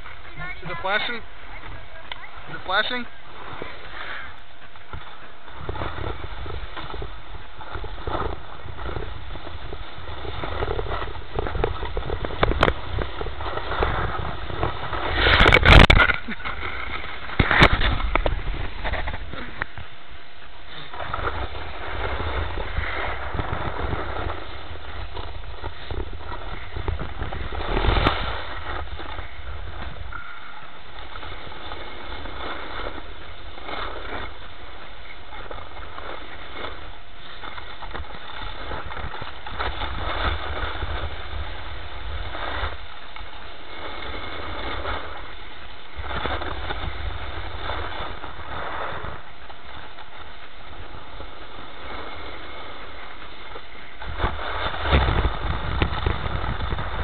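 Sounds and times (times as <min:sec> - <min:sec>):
wind buffeting microphone: 0:00.0 - 0:57.0
ski edges scraping packed snow: 0:02.5 - 0:19.9, 0:20.6 - 0:57.0.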